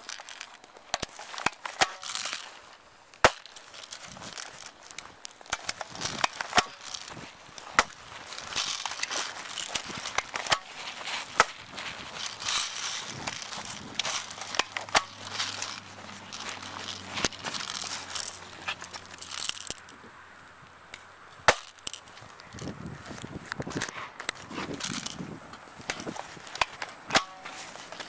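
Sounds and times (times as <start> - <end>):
rustling of movement: 0.0 - 20.2, 20.9 - 28.0.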